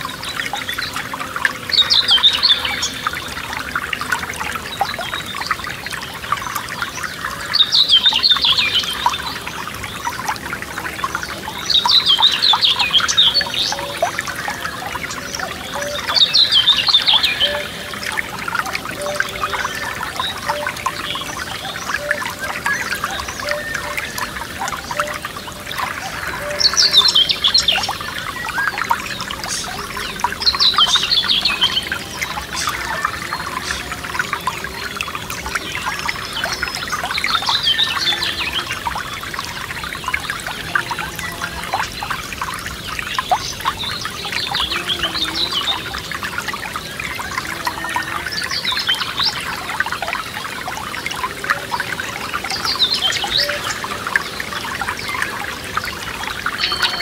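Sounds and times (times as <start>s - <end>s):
songbird singing: 0.0s - 57.0s
stream trickling and splashing: 0.0s - 57.0s.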